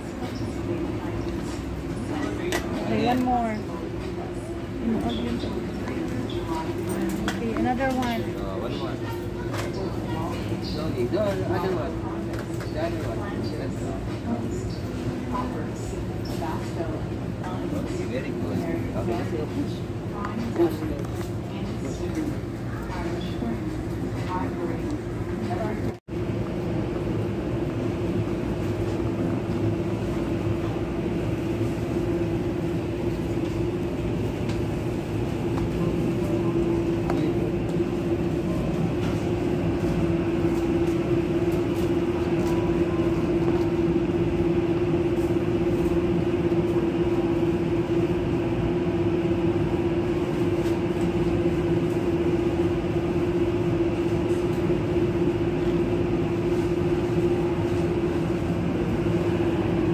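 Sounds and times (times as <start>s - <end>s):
constant hum: 0.0s - 59.9s.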